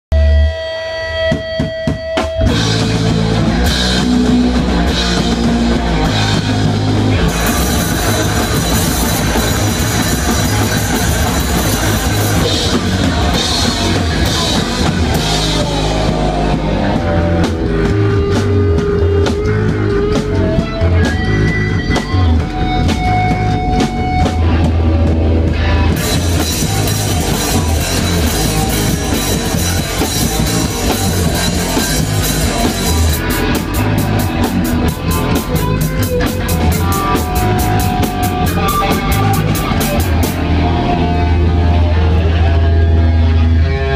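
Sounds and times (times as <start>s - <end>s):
live rock band playing: 0.2s - 43.9s.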